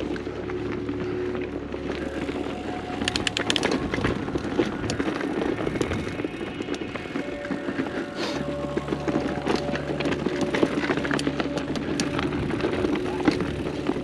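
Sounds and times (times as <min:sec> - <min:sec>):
bike rattling over bumps: 0:00.0 - 0:14.0
bike tyres on dirt trail: 0:00.0 - 0:14.0.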